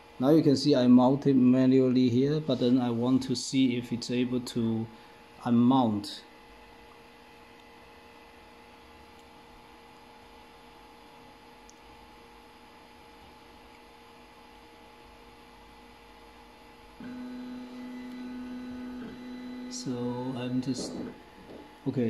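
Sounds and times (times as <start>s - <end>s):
faint electrical hum with tones: 0.0s - 22.0s
loud steady hum: 0.0s - 22.0s.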